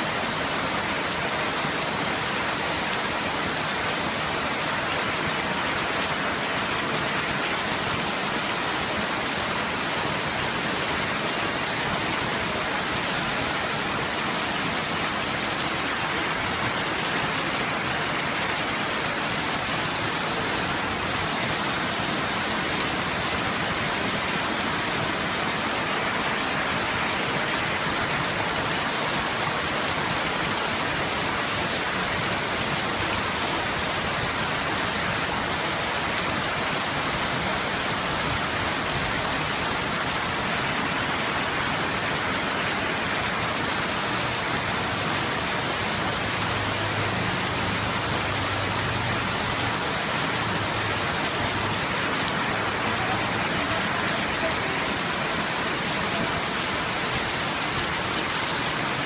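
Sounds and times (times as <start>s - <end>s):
heavy rain on flooded street: 0.0s - 59.0s.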